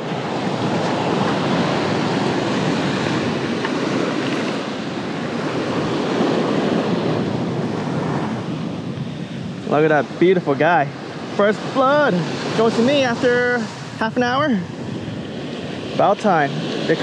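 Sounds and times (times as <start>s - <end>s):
ocean surf washing ashore: 0.0s - 17.0s
wind on microphone: 0.0s - 17.0s.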